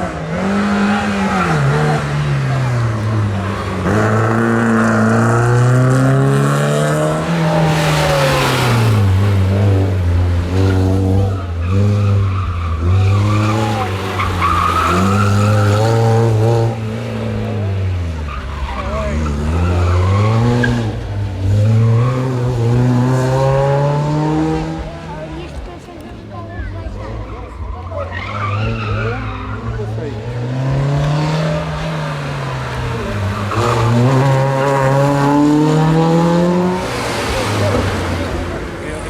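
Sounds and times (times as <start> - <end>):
tyres squealing: 0.0 - 23.5, 26.7 - 39.0
rally car engine revving: 0.0 - 39.0.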